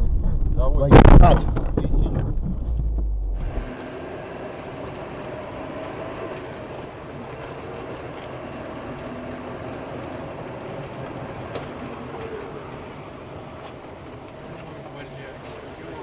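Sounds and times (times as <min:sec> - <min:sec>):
road and engine noise in car: 0:00.6 - 0:16.0.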